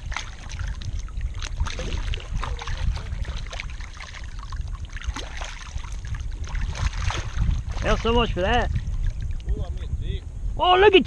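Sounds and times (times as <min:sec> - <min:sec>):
water splashing and trickling: 0:00.0 - 0:10.2
steady low rumble: 0:00.0 - 0:10.7.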